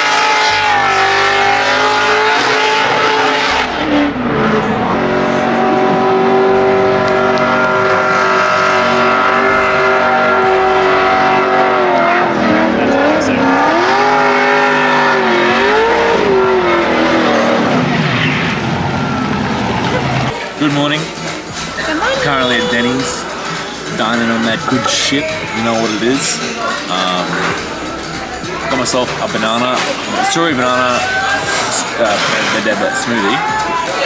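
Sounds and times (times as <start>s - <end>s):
car engines revving high: 0.0s - 30.7s
tyres squealing: 4.4s - 34.0s.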